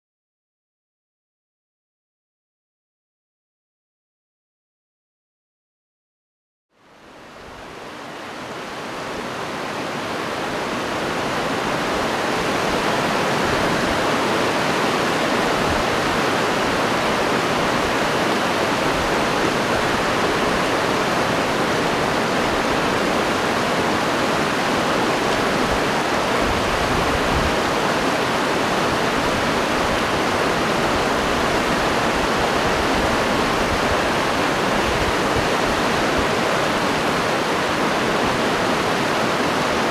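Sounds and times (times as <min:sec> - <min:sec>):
stream rushing over stones: 0:07.0 - 0:39.9.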